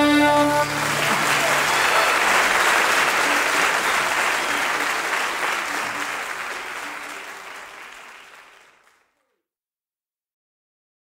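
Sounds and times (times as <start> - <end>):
audience applause: 0.2 - 9.2.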